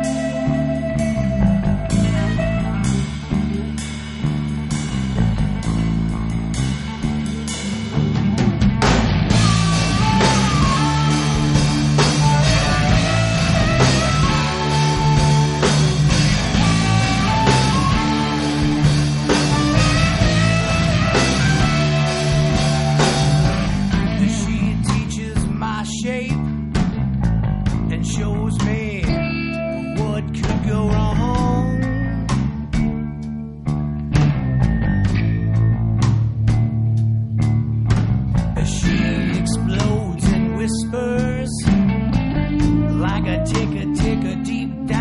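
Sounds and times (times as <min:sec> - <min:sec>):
rock music with guitars and drums: 0:00.0 - 0:45.0.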